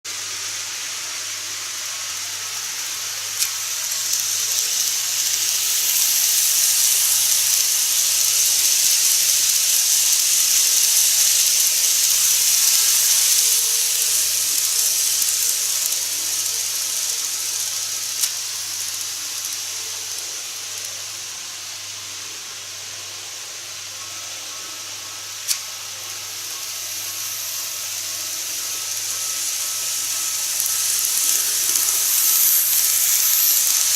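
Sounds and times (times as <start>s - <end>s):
model train rolling on track: 0.1s - 33.9s.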